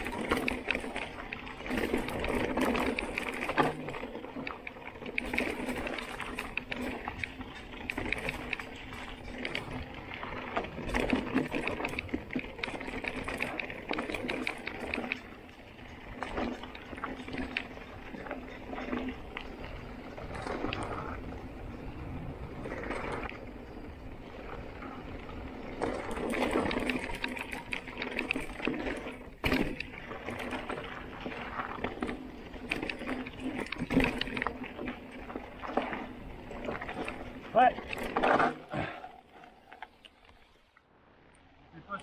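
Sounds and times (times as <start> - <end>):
bike rattling over bumps: 0.0 - 40.8
tyres on dirt and stones: 0.0 - 40.9.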